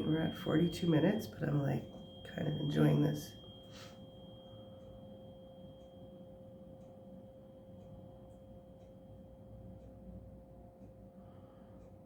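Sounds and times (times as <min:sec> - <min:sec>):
tuning fork ringing: 0:00.0 - 0:12.0.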